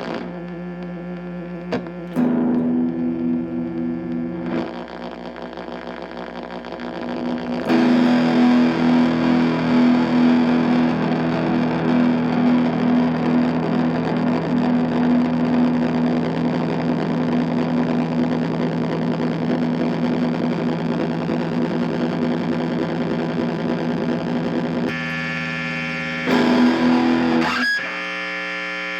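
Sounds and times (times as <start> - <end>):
distorted electric guitar chords: 0.0 - 28.9.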